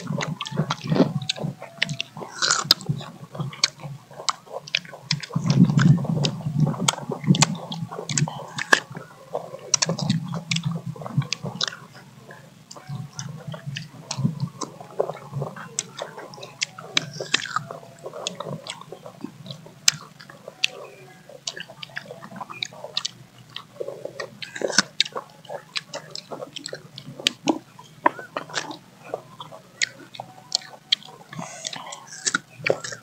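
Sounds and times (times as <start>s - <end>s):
people biting and chewing mango: 0.0s - 33.0s.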